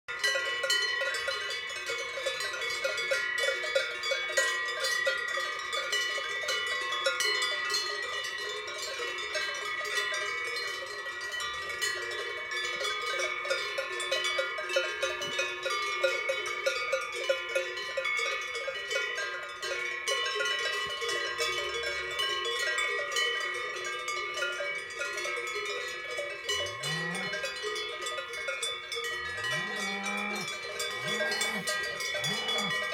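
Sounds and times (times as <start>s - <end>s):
cowbells clanking: 0.1s - 32.9s.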